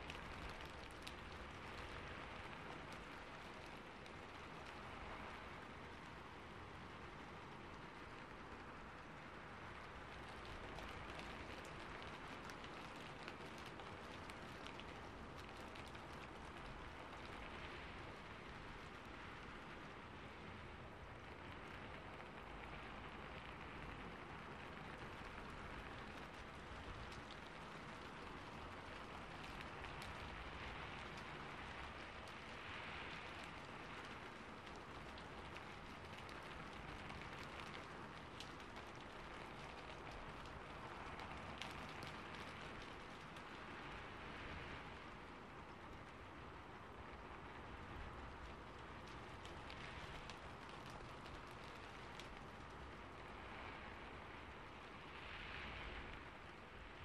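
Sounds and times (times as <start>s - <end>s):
rain on a roof: 0.0s - 57.0s.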